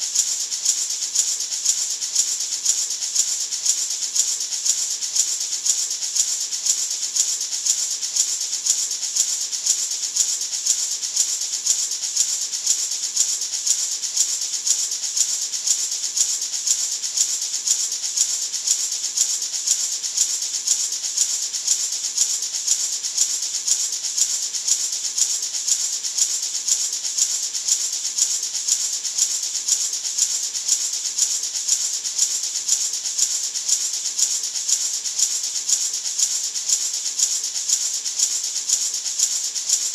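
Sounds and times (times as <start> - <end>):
maraca shaken rhythmically: 0.0 - 39.9.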